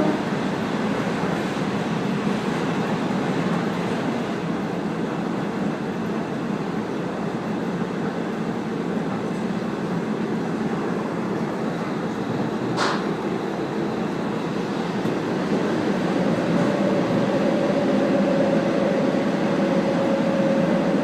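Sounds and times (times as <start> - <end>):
railcar rumbling on the line: 0.0 - 21.0.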